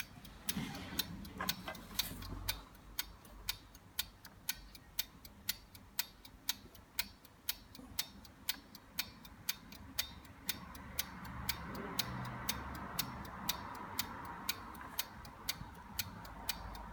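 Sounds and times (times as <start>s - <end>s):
clock ticking: 0.0s - 16.9s.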